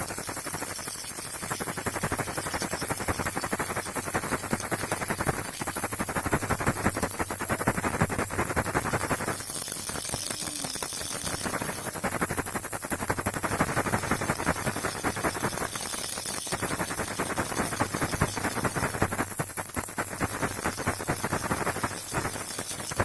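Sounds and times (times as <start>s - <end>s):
baby rattle shaking: 0.0s - 23.0s.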